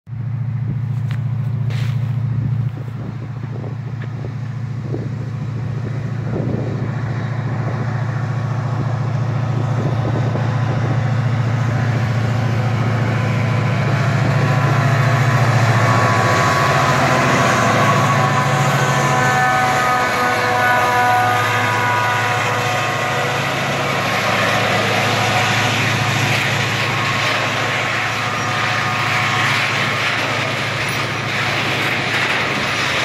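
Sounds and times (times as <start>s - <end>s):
diesel locomotive engine drone: 0.0s - 33.0s
train wheels on rails: 0.3s - 33.0s.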